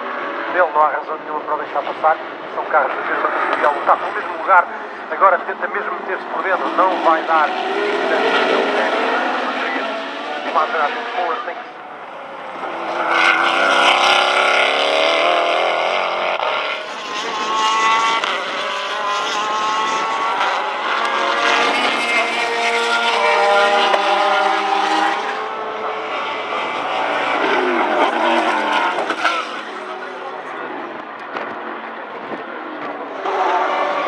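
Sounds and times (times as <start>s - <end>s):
race car engines passing: 0.0s - 34.0s.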